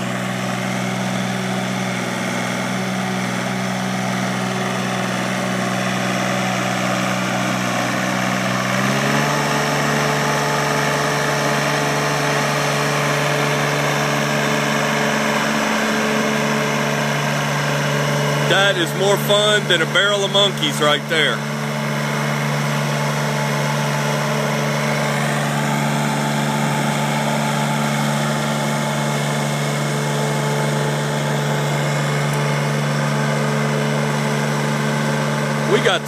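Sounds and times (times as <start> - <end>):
mower engine running: 0.0 - 36.0.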